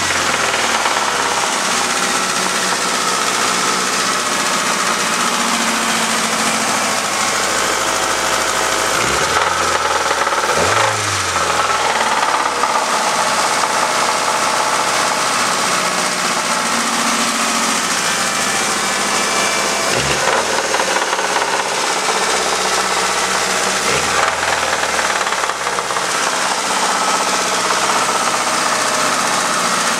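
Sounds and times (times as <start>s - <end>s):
engine running with knocking: 0.0s - 29.9s.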